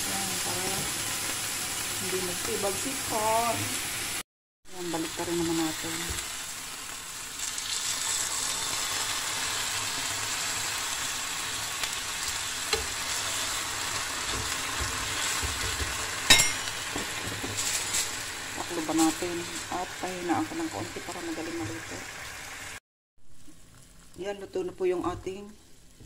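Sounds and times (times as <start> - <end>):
steaks sizzling in a pan: 0.0 - 4.2, 4.8 - 22.8.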